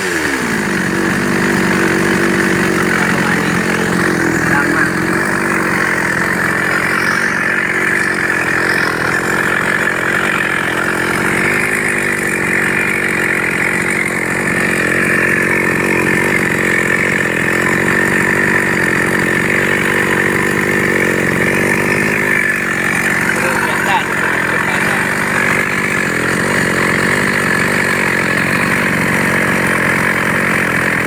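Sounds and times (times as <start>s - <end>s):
chainsaw engine running: 0.0s - 31.0s.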